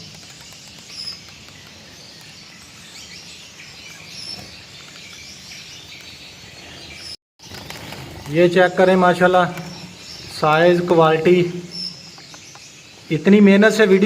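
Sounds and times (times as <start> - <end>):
finches chirping faintly: 0.0 - 14.0.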